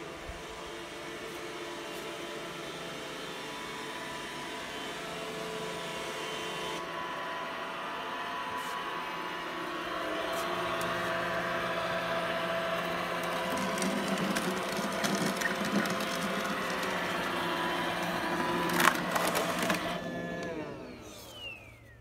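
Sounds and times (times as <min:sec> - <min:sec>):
robot vacuum humming: 0:00.0 - 0:22.0.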